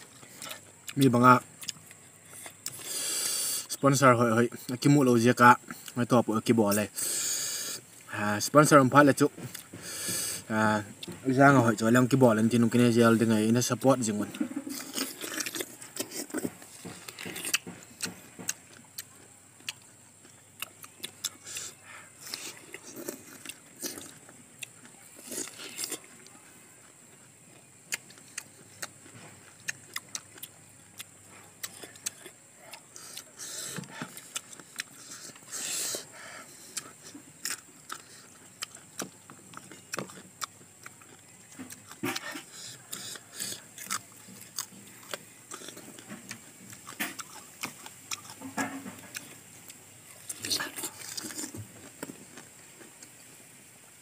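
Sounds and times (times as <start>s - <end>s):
wet chewing and crunching fruit: 0.0s - 54.0s.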